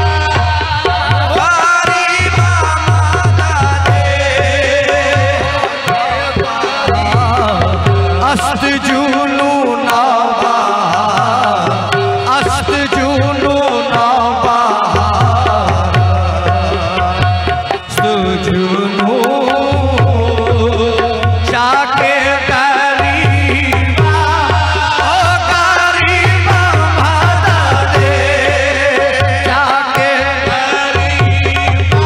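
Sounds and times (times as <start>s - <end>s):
hand drum rhythm: 0.0s - 10.2s, 10.8s - 32.0s
lead voice singing: 0.0s - 32.0s.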